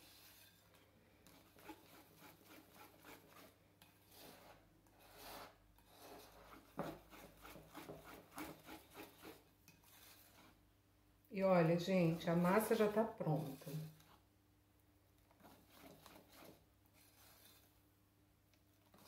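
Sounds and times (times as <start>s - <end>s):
whisk scraping batter in bowl: 0.0s - 10.6s, 11.6s - 14.2s, 15.3s - 17.8s.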